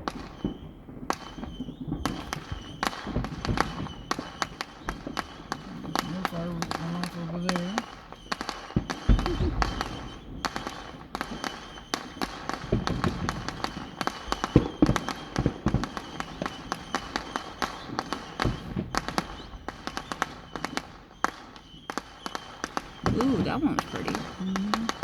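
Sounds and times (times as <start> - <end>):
fireworks crackling and banging: 0.0 - 25.0.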